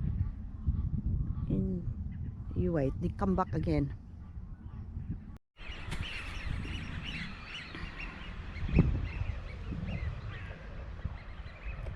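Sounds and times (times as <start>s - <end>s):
birds calling: 0.0s - 11.9s.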